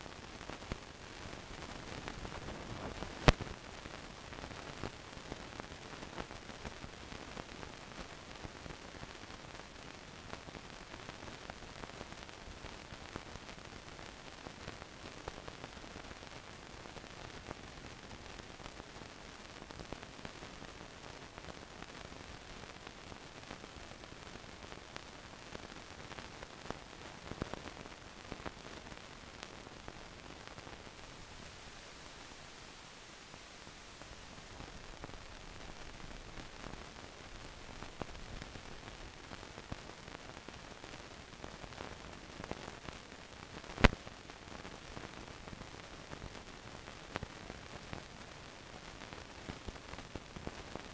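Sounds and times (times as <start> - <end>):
crackles and clicks: 0.0 - 50.9
film soundtrack hiss: 0.0 - 50.9.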